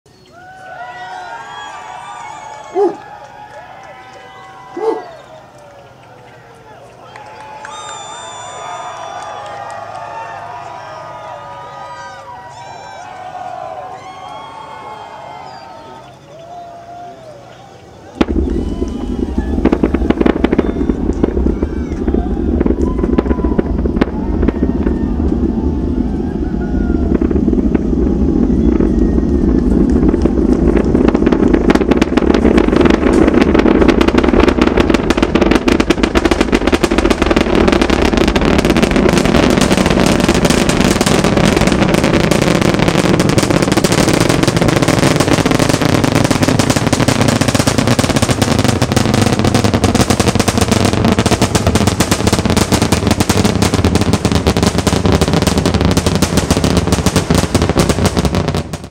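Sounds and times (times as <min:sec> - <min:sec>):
distant rocket engines crackling rumble: 0:00.4 - 0:58.9.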